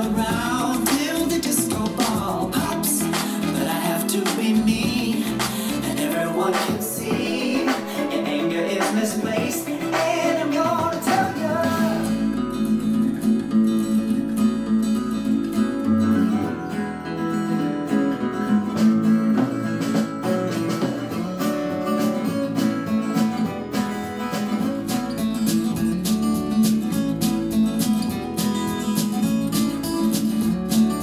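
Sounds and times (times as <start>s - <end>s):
pop song through a speaker: 0.0s - 31.0s.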